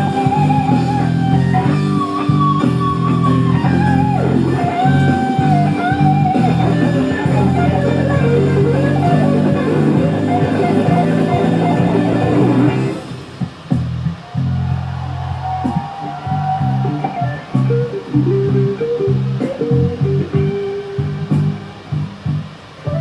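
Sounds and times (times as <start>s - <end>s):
bending lead guitar melody: 0.0s - 14.6s, 15.5s - 23.0s
bass line: 0.0s - 23.0s
rock music with guitar: 0.0s - 23.0s.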